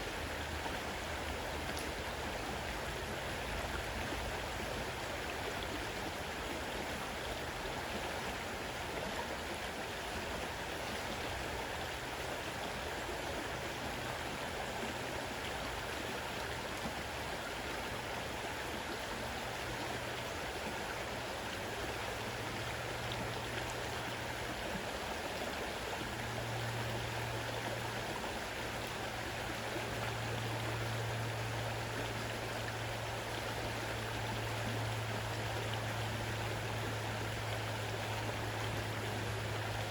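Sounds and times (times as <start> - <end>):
low steady hum: 0.0 - 39.9
river water rushing: 0.0 - 39.9.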